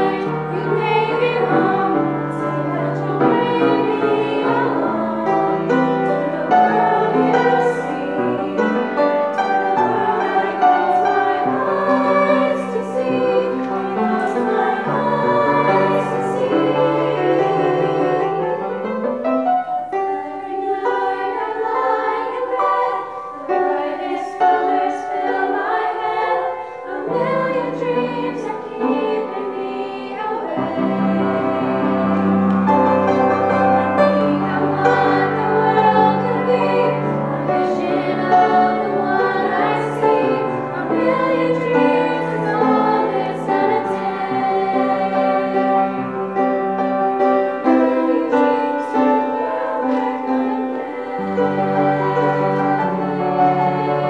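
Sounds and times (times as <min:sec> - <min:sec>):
women singing together: 0:00.0 - 0:18.7, 0:20.0 - 0:46.2, 0:47.5 - 0:54.0
piano accompaniment: 0:00.0 - 0:54.0.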